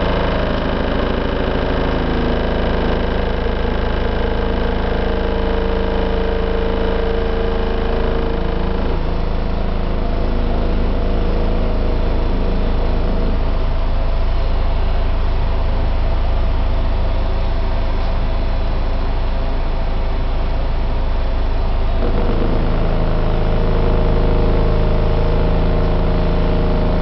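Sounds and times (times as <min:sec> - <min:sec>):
deep machinery rumble: 0:00.0 - 0:27.0
heavy vehicle engine running: 0:00.0 - 0:27.0.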